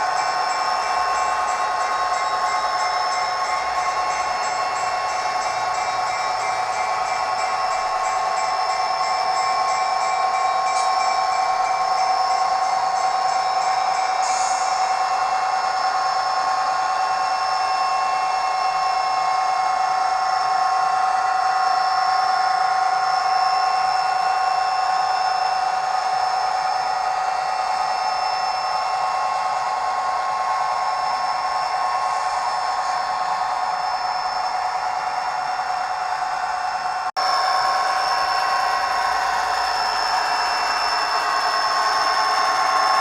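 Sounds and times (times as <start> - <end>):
constant high whine: 0.0 - 43.0
model locomotive diesel engine sound: 0.0 - 43.0.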